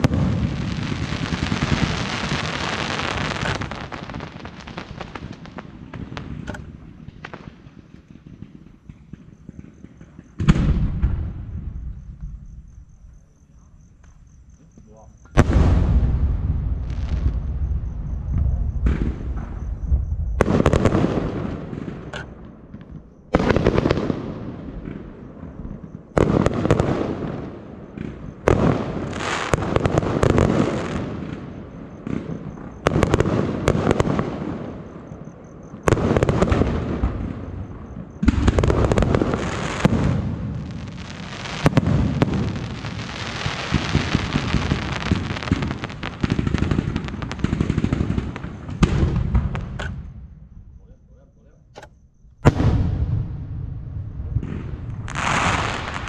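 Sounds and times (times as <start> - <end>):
fireworks crackling: 0.0 - 12.4, 14.9 - 35.0, 35.7 - 50.1, 52.4 - 56.0
fireworks bursting: 0.0 - 13.2, 14.0 - 50.6, 51.7 - 56.0.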